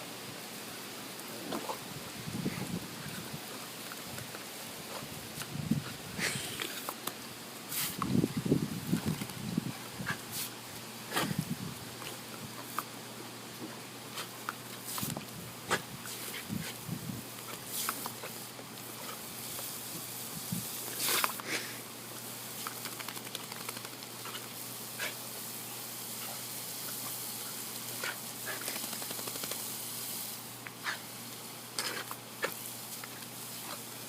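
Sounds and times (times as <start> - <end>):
hiss of spraying water: 0.0 - 8.9, 9.5 - 34.0.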